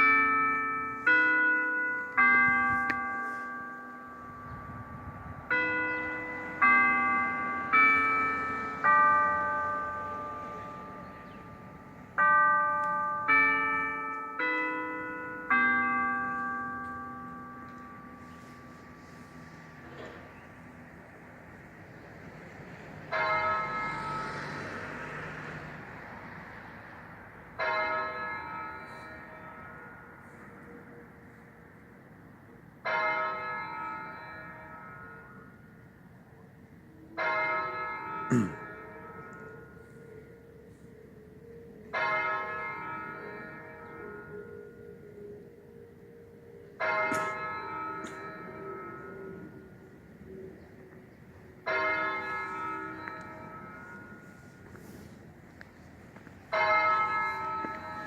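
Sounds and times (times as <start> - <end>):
church bell strokes: 0.0 - 25.5, 27.5 - 31.5, 37.2 - 58.0.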